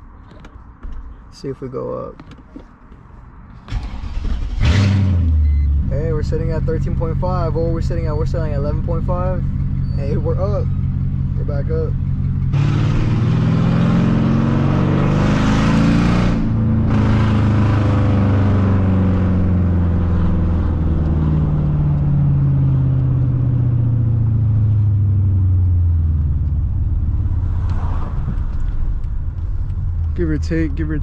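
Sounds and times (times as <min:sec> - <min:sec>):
car engine accelerating: 0:03.7 - 0:31.0.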